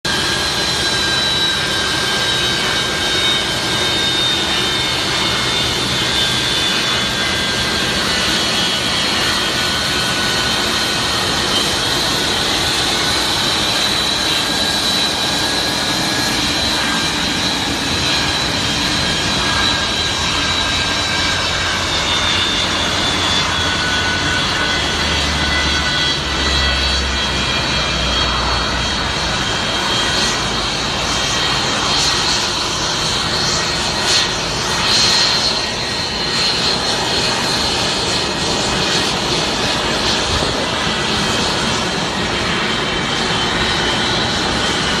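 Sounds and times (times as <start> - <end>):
airplane engines running: 0.0 - 45.0.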